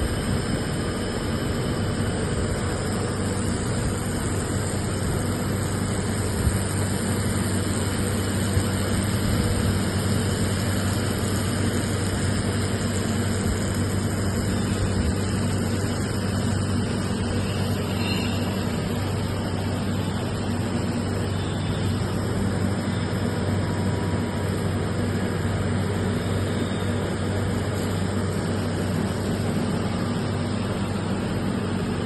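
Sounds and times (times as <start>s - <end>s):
laser welding machine humming: 0.0s - 32.0s.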